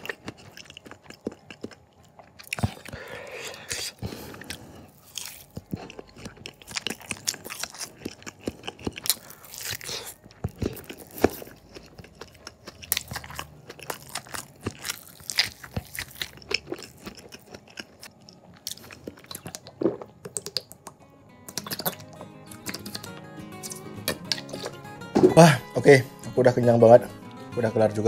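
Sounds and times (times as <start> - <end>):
mouth chewing wet smacks: 0.0 - 4.6, 5.2 - 24.8.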